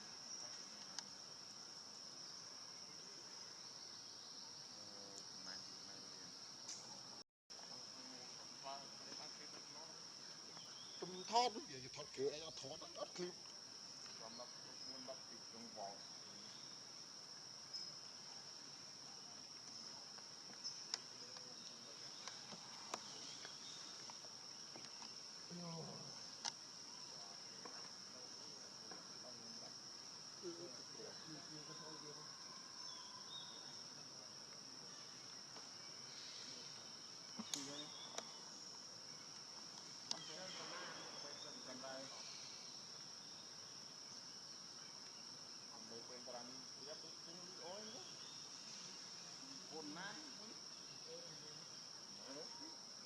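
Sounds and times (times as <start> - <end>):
crickets trilling: 0.0 - 53.0.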